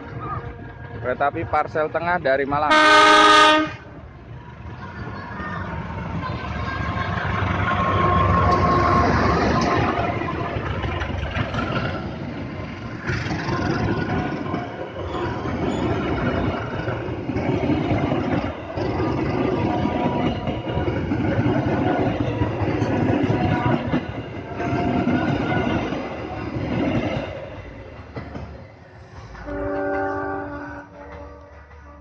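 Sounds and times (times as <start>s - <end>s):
freight train wheels clattering: 4.5s - 32.0s.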